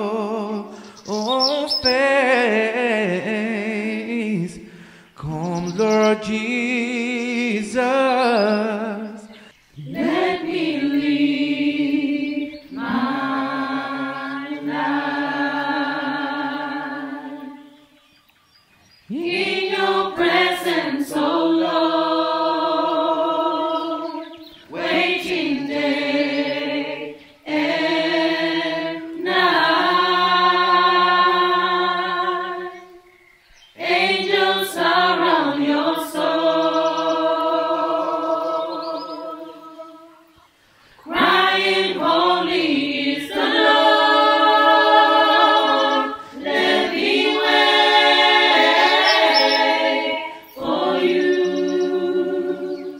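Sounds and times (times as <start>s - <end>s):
gospel choir singing a cappella: 0.0s - 18.2s, 19.0s - 52.9s.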